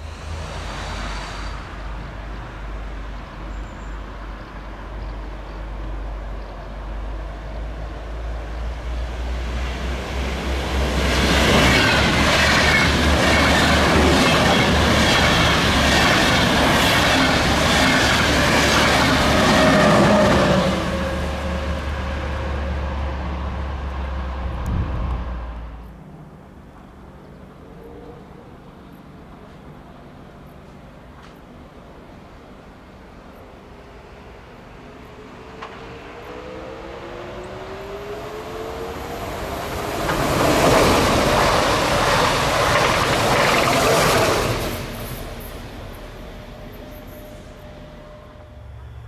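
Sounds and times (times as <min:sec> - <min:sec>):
train rumble and wheel clatter: 0:00.0 - 0:49.0.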